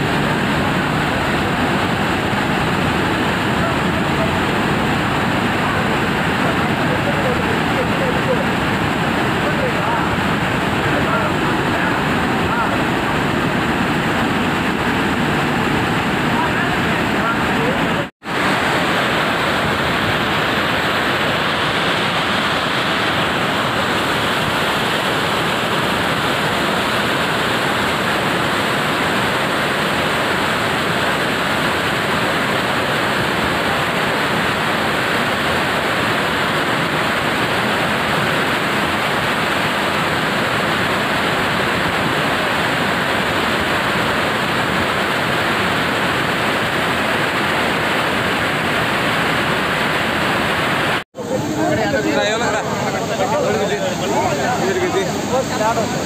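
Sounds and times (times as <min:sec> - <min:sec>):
floodwater rushing over steps: 0:00.0 - 0:56.0.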